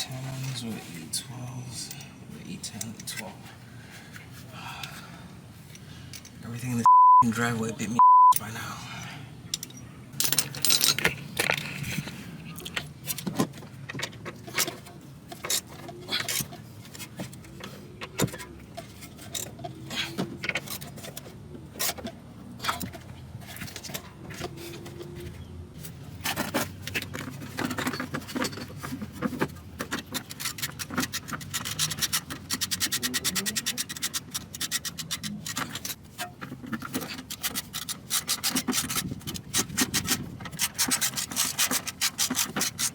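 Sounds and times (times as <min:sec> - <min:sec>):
metal tools clinking and scraping: 0:00.0 - 0:01.0, 0:01.7 - 0:03.4, 0:09.5 - 0:13.2, 0:13.9 - 0:42.9.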